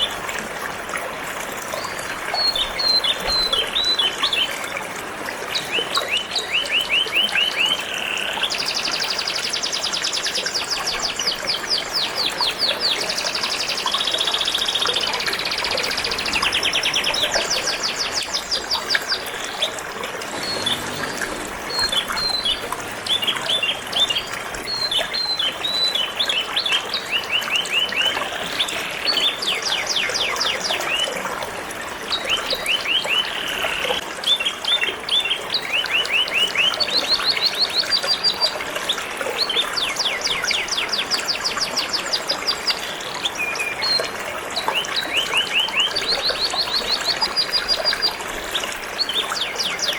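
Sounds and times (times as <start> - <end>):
trickle of flowing water: 0.0 - 49.9.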